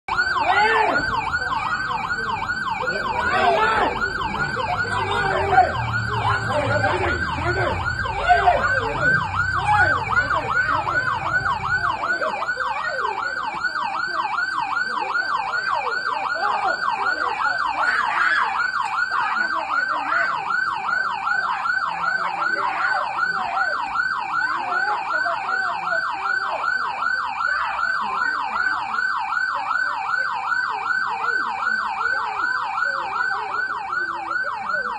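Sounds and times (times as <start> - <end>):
police siren yelping: 0.1 - 34.9.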